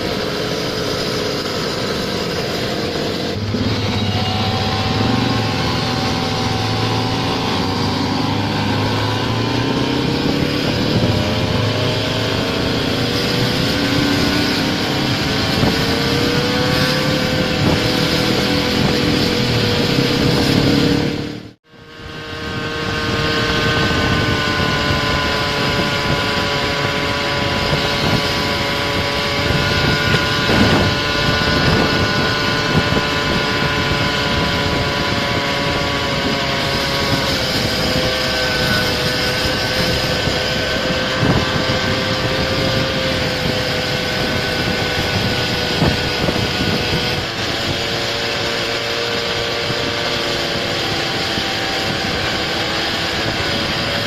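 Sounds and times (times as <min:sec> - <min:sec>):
road and wind noise: 0:00.0 - 0:54.0
scooter engine running: 0:00.0 - 0:54.0.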